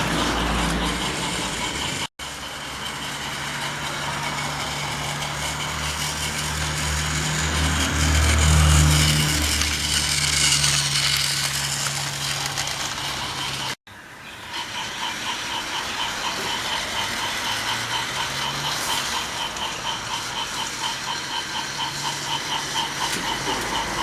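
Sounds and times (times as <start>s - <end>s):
toy train motor with fast ticking: 0.0s - 24.0s.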